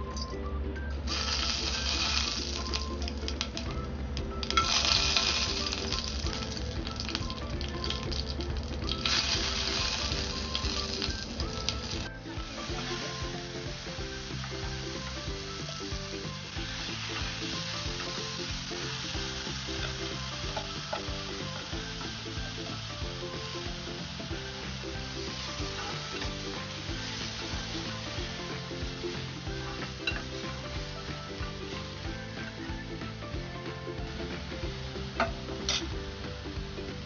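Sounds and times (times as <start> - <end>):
spices sizzling in hot fat: 0.9 - 37.0.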